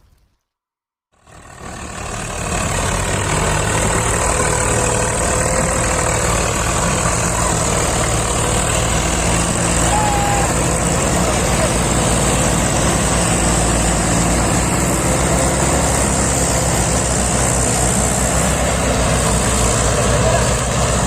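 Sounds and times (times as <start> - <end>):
diesel engine running: 1.2 - 21.0.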